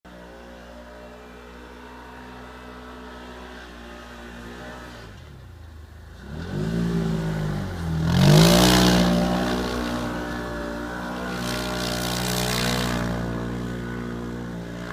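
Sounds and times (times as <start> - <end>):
engine idling and revving: 0.1 - 14.9.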